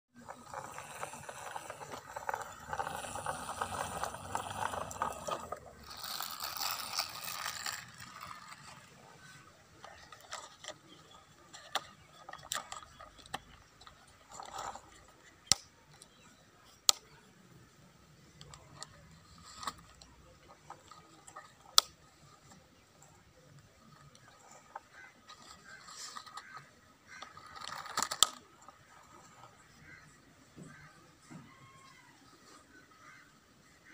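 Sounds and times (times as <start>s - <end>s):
toy trucks scraping on dirt: 0.2s - 33.9s.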